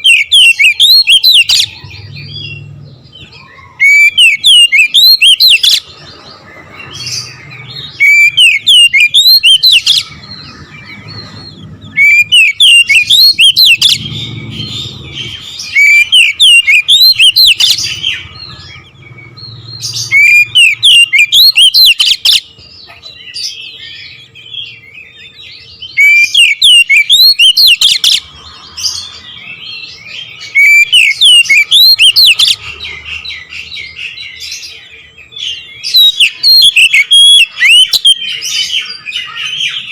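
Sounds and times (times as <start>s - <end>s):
bird singing whistled notes: 0.0s - 39.9s
soft bird twittering: 0.0s - 39.9s.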